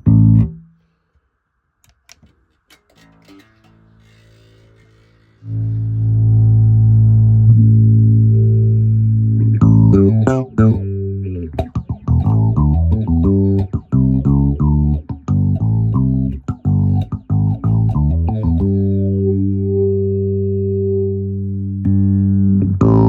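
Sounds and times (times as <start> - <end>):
electric bass notes: 0.0 - 0.8, 2.8 - 23.0.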